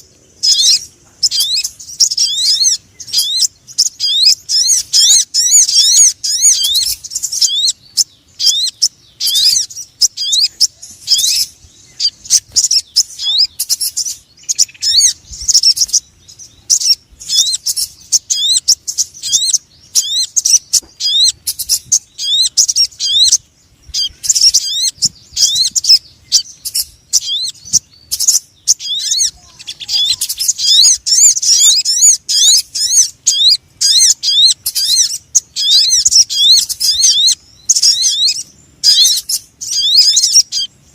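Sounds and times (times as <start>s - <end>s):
high thin bird chirps: 0.0s - 40.9s.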